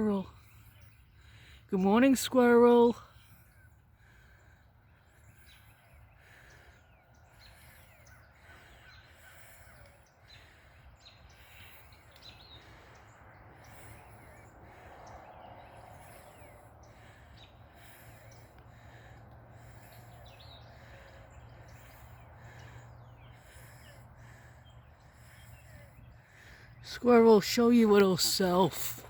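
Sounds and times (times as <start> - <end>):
wild birds chirping: 0.0 - 29.0.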